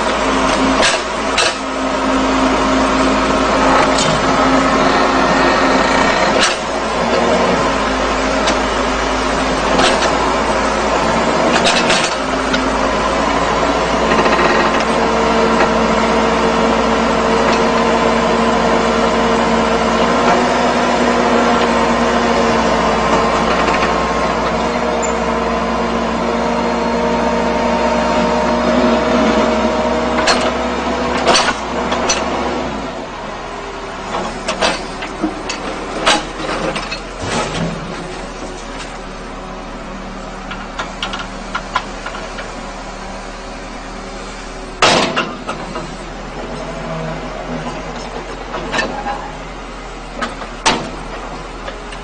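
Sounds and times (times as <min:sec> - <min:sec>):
construction machine engine running: 0:00.0 - 0:52.0.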